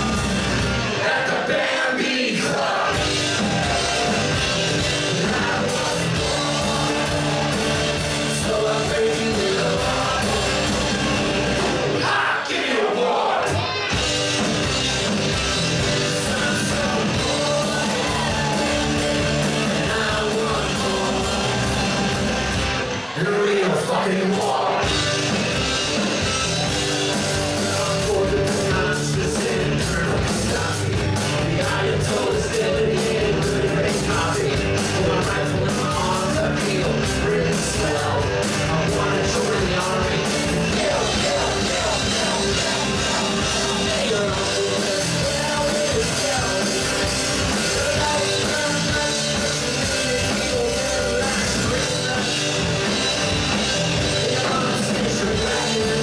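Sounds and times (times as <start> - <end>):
electric guitars: 0.0 - 1.3, 2.6 - 12.3, 13.4 - 56.0
bass guitar: 0.0 - 1.6, 2.4 - 12.4, 13.4 - 56.0
drums: 0.0 - 56.0
lead vocal singing: 0.0 - 56.0.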